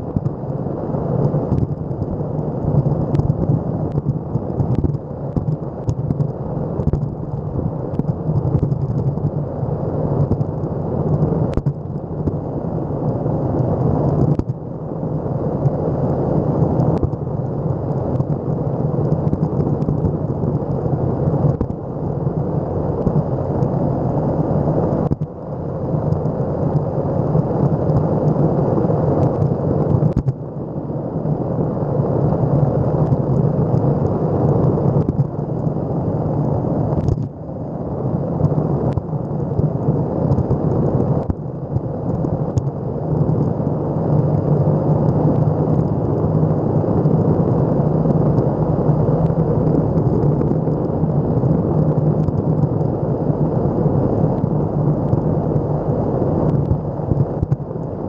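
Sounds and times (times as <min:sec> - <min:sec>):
skateboard wheels rumbling on asphalt: 0:00.0 - 0:58.0.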